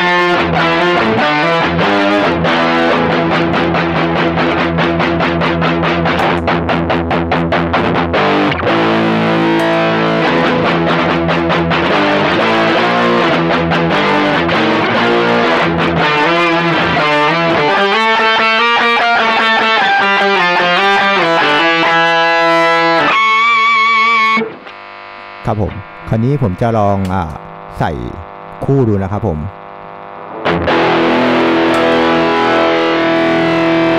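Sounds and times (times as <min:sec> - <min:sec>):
distorted electric guitar chords: 0:00.0 - 0:33.9.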